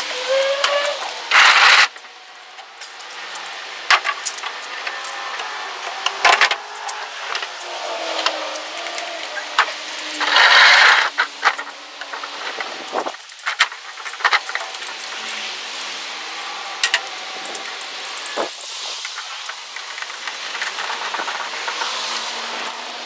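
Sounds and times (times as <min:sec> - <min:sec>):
noisy rush: 0:00.0 - 0:23.0.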